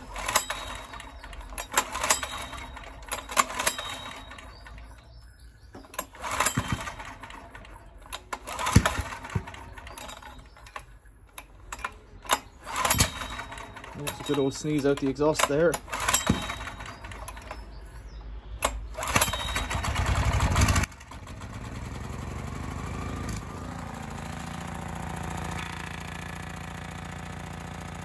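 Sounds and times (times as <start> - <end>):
engine turning over: 0.0 - 28.0
generator recoil starter pulls: 0.0 - 28.0.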